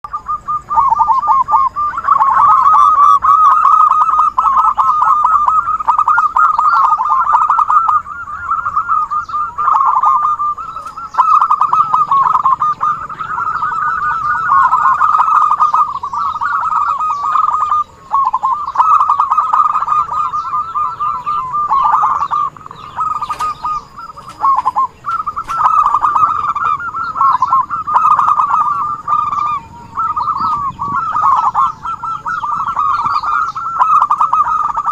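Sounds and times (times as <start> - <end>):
doves cooing: 0.0 - 34.9.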